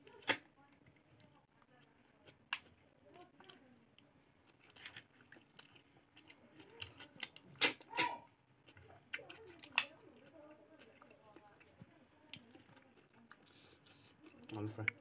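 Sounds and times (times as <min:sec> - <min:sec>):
person chewing food: 0:00.1 - 0:15.0.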